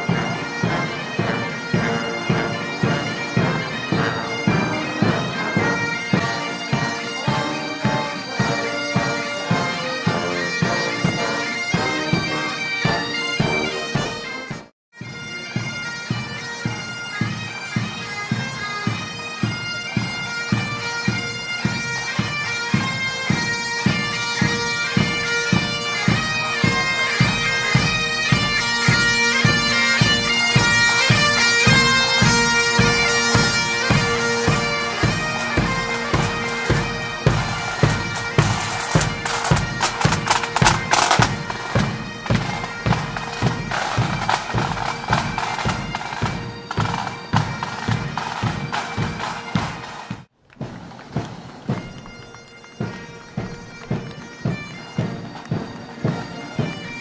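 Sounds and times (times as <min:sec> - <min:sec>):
bagpipe melody and drone: 0:00.0 - 0:50.3, 0:51.2 - 0:57.0
marching drums beating: 0:00.0 - 0:57.0.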